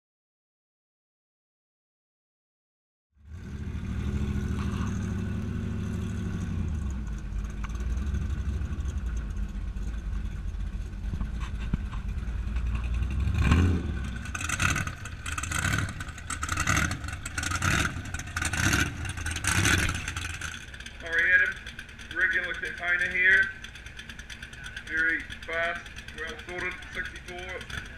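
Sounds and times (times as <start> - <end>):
car engine running: 3.2 - 27.9.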